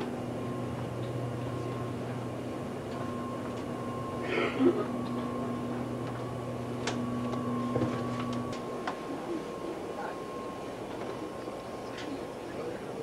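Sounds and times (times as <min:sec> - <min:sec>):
train interior hum and rumble: 0:00.0 - 0:13.0.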